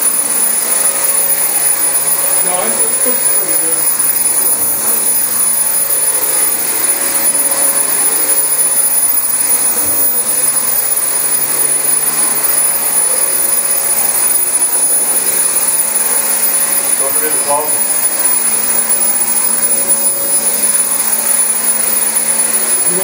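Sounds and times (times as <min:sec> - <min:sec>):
vacuum cleaner running on carpet: 0:00.0 - 0:23.0.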